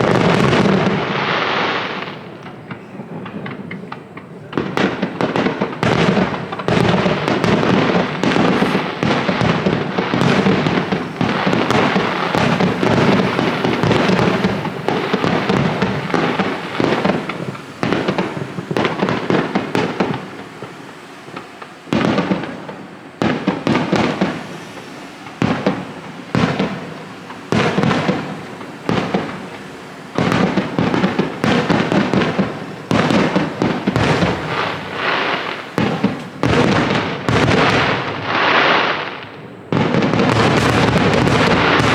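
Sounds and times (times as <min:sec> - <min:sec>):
fireworks bursting and crackling: 0:00.0 - 0:41.9.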